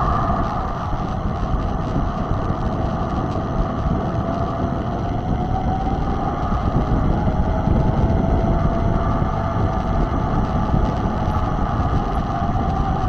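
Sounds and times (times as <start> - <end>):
bike tyres rolling rumble: 0.0 - 13.0
steady hum: 0.0 - 13.0
wind buffeting microphone: 0.0 - 13.0.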